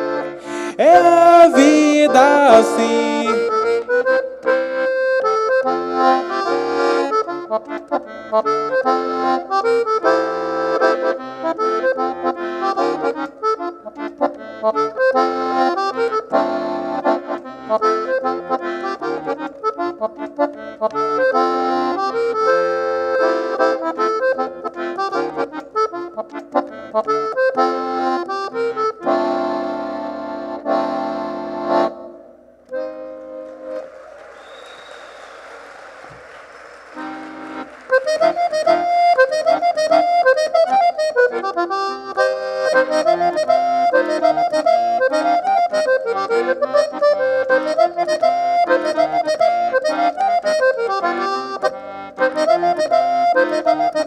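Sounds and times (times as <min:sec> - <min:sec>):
accordion playing: 0:00.0 - 0:54.0.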